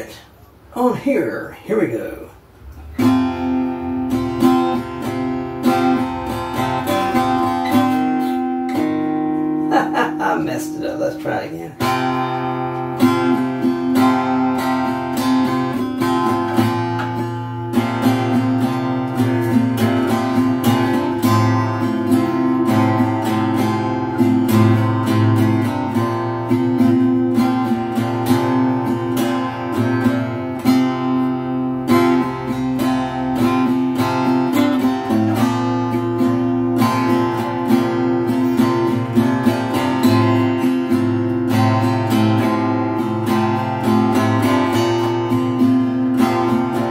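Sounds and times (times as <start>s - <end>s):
acoustic guitar strummed: 0.0s - 46.9s.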